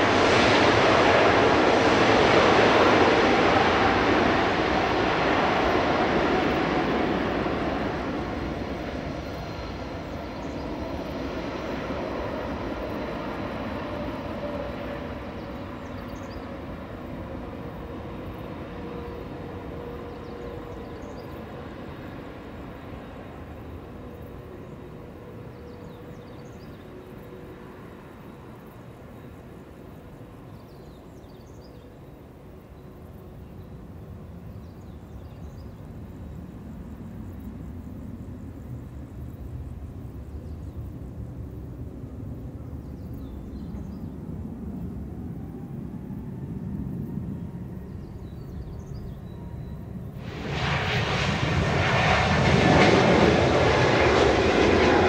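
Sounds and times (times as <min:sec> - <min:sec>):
jet engines rushing: 0:00.0 - 0:30.5, 0:35.8 - 0:55.0
faint steady engine whine: 0:00.0 - 0:55.0.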